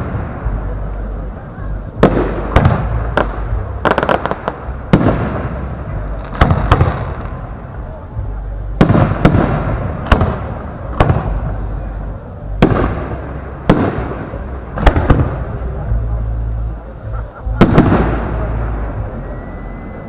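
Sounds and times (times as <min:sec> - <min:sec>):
rolling echo: 0:00.0 - 0:20.0.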